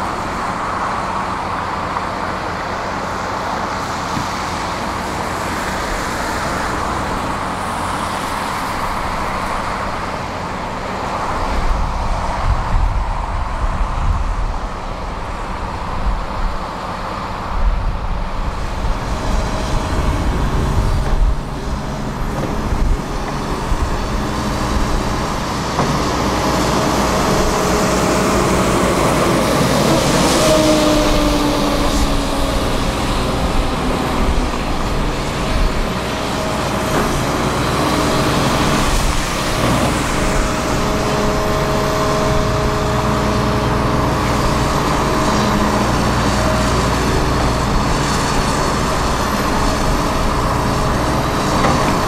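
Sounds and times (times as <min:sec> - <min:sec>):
diesel engines rumbling: 0:00.0 - 0:52.0.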